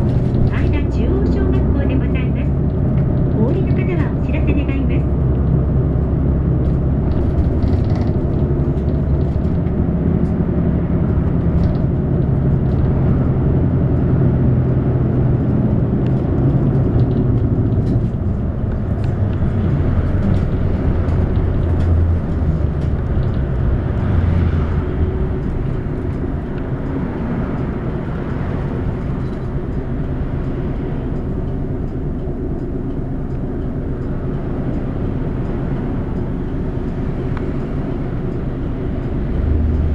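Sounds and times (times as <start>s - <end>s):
bus engine droning: 0.0s - 39.9s
road noise: 0.0s - 39.9s.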